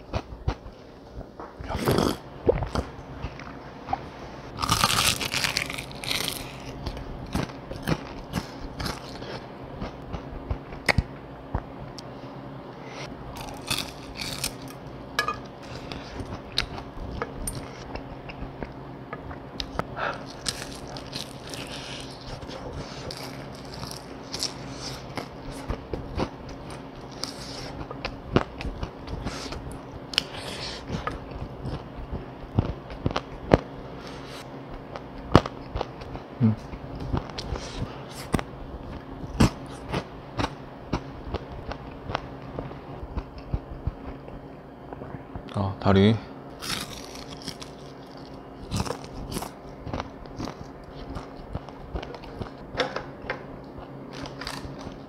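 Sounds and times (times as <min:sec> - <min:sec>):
chewing and crunching fried chicken: 0:04.6 - 0:11.1, 0:13.3 - 0:14.8, 0:15.6 - 0:45.7, 0:46.5 - 0:52.6, 0:53.7 - 0:55.0.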